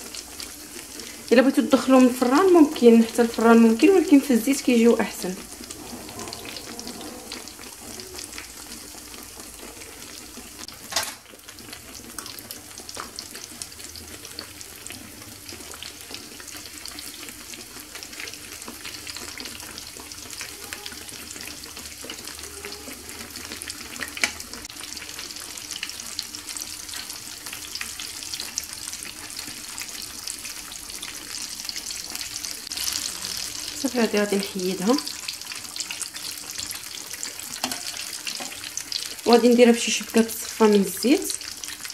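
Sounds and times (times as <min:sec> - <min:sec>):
oil frying crackling sizzle: 0:00.0 - 0:41.9.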